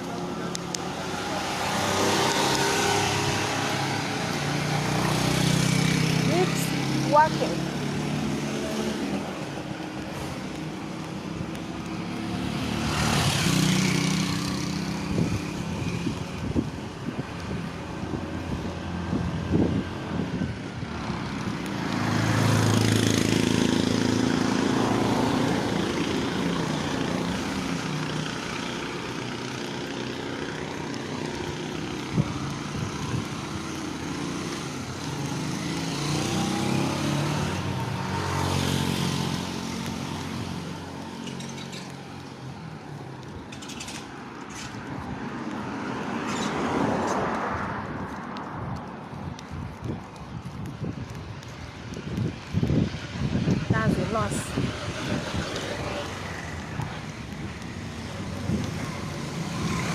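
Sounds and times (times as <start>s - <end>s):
vehicles driving past: 0.0s - 59.9s.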